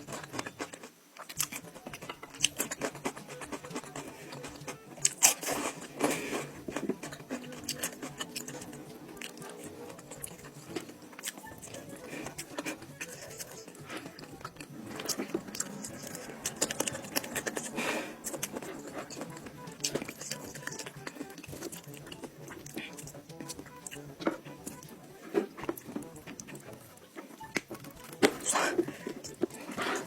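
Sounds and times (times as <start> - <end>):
chewing and biting meat: 0.0 - 30.0.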